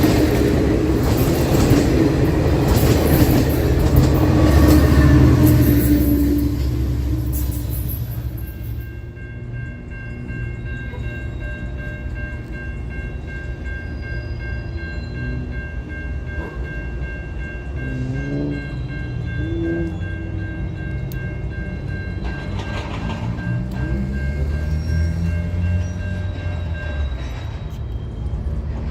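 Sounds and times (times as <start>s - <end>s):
freight train rumbling: 0.0s - 28.9s.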